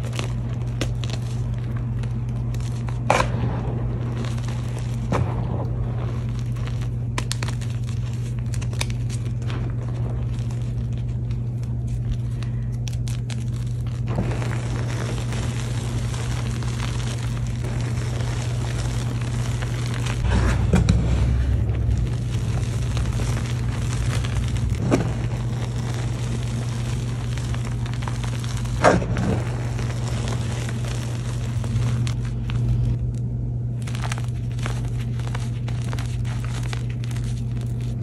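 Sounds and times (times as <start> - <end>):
hands crunching chalk: 0.0 - 33.0, 33.8 - 38.0
steady low hum: 0.0 - 38.0.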